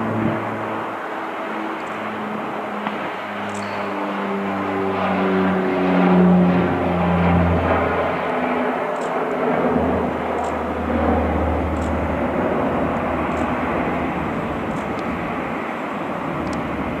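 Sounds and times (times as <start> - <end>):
turboprop engines humming: 0.0 - 17.0.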